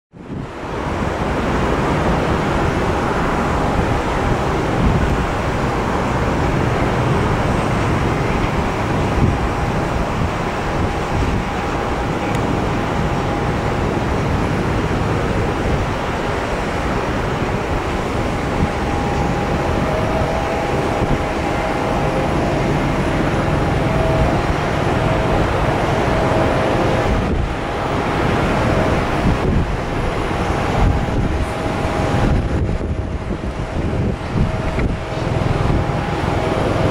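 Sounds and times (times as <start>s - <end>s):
high jet engine whine: 0.1s - 36.9s
jet engine roar: 0.1s - 36.9s
wind on microphone: 0.1s - 36.9s
second jet engine whine: 0.2s - 36.9s.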